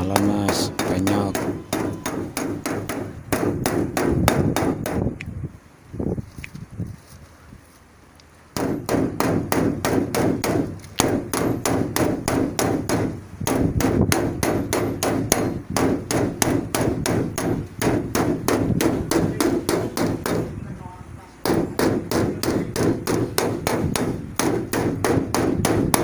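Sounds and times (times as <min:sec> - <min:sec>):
hammer tapping car body panel: 0:00.0 - 0:05.1, 0:08.6 - 0:20.5, 0:21.4 - 0:26.0.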